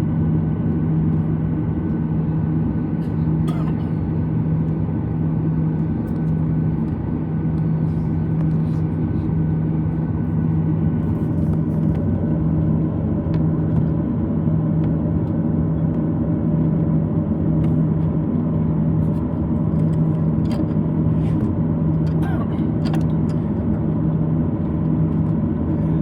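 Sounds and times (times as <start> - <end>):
airplane cabin engine hum: 0.0 - 26.0.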